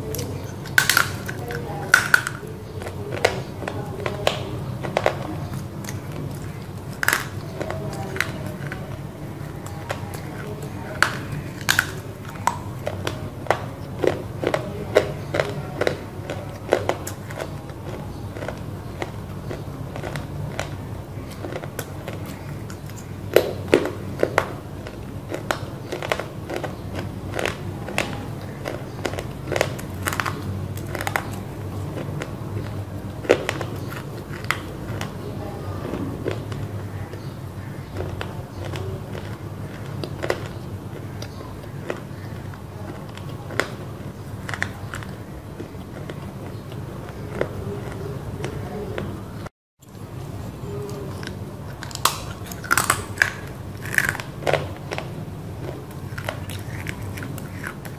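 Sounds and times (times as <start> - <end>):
crunching hard clay chunks: 0.0 - 49.4, 50.0 - 57.9
chewing: 0.0 - 57.9
steady low hum: 0.0 - 57.9.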